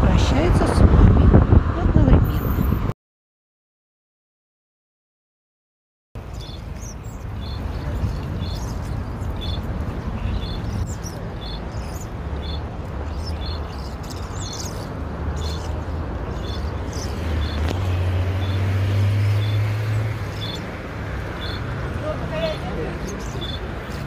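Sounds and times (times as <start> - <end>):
low rumble of city traffic: 0.0 - 3.0, 6.2 - 24.0.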